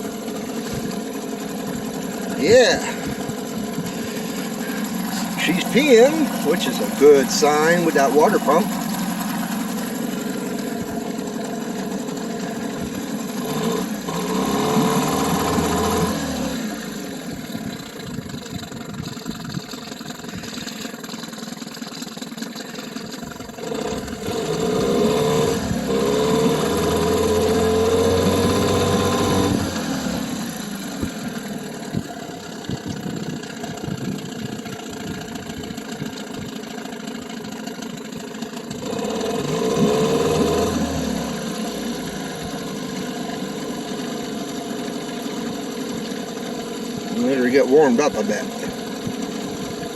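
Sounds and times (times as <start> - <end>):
cooling water stream: 0.0 - 49.9
outboard motor idling and revving: 0.0 - 49.9.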